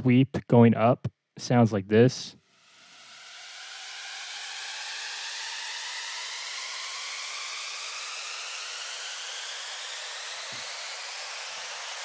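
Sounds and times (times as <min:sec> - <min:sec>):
electronic noise riser: 0:02.4 - 0:12.0.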